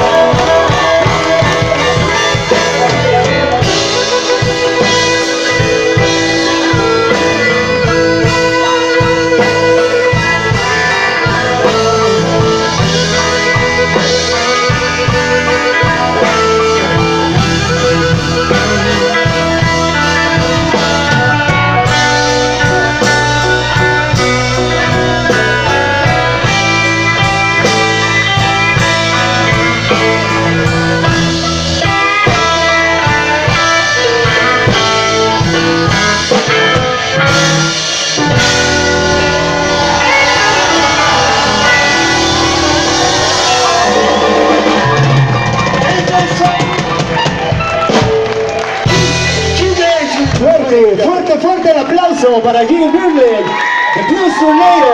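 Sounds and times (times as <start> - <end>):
electric guitar: 0.0 - 51.9
drum kit: 0.0 - 52.0.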